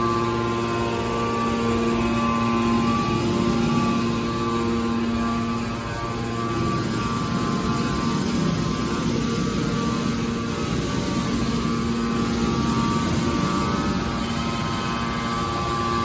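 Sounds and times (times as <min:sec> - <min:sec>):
hydraulic machine hum: 0:00.0 - 0:16.0.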